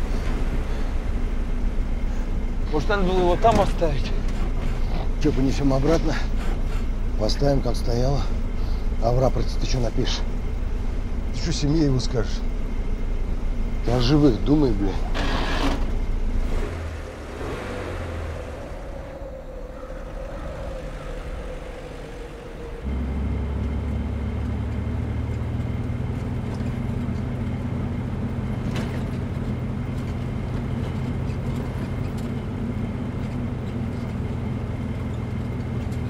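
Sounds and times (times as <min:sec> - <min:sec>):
vehicle engine humming: 0:00.0 - 0:36.0.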